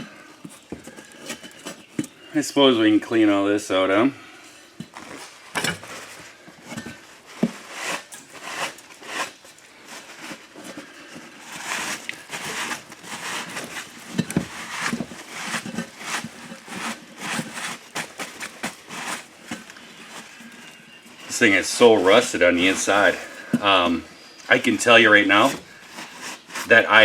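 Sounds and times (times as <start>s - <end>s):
scraping and knocking on wheel rim: 0.1s - 2.2s, 4.7s - 27.0s.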